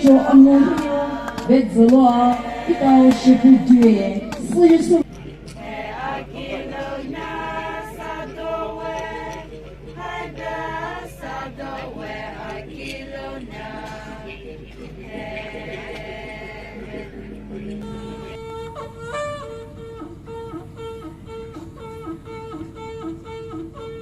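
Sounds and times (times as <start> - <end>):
group singing without instruments: 0.0 - 24.0.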